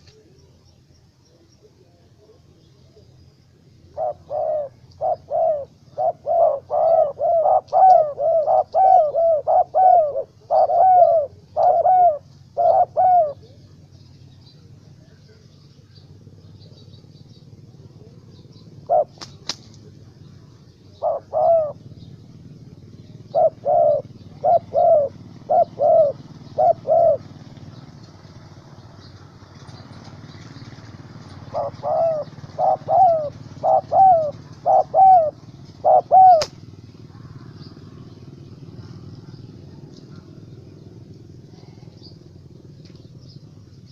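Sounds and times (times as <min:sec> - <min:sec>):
steady low hum: 0:00.0 - 0:43.9
dove cooing: 0:01.4 - 0:15.4, 0:16.0 - 0:43.9.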